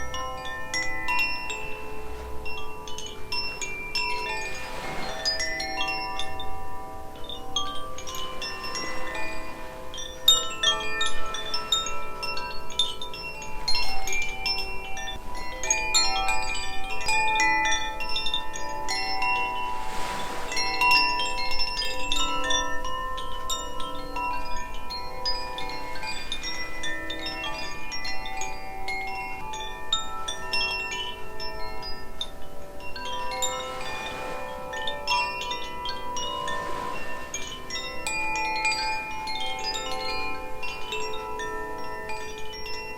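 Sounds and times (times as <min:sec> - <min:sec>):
chimes tinkling: 0:00.0 - 0:42.9.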